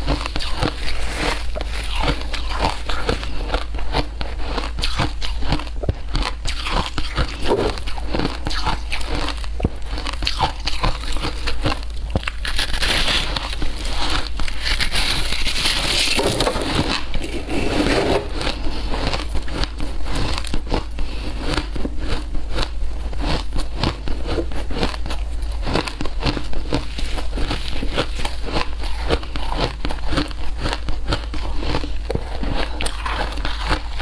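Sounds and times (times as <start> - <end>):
crunching shaved ice: 0.0 - 34.0.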